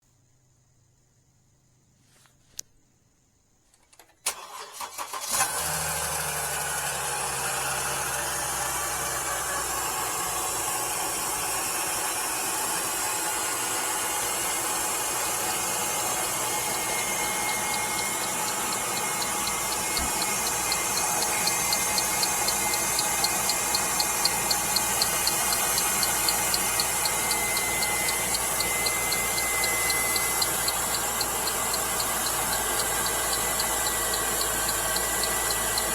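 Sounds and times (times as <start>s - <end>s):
engine cranking and idling: 4.0s - 35.9s
light regular engine ticking: 4.4s - 35.9s.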